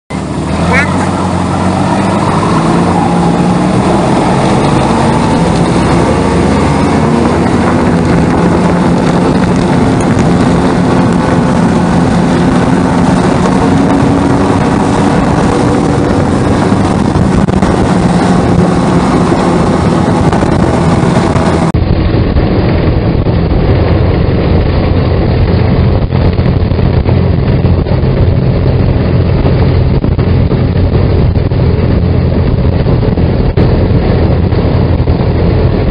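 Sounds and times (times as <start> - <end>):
vehicle engine running: 0.1 - 35.9.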